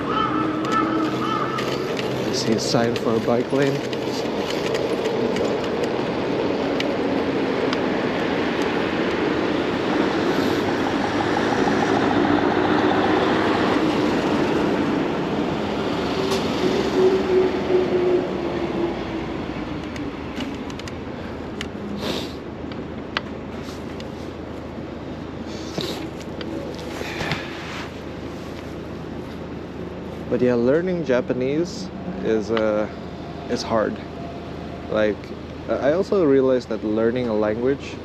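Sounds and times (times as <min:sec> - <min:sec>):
passing vehicle hum: 0:00.0 - 0:38.0.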